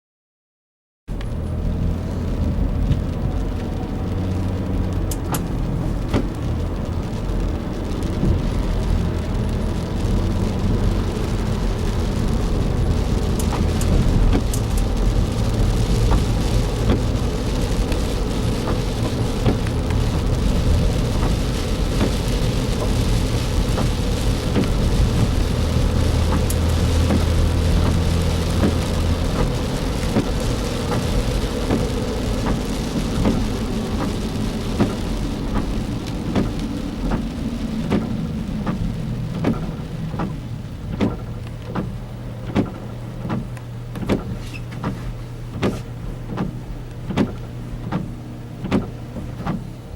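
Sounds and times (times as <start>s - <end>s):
car engine and tyres droning: 1.1s - 49.9s
rain drops ticking: 1.1s - 49.9s
rain hissing on car body: 1.1s - 49.9s.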